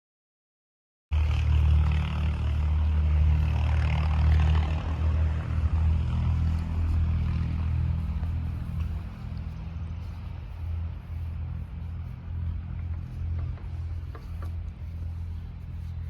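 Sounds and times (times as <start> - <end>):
diesel engine running steadily: 1.1 - 16.0.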